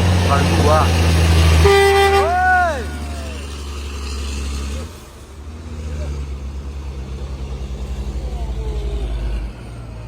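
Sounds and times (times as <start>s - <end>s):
diesel truck engine labouring: 0.0s - 10.0s.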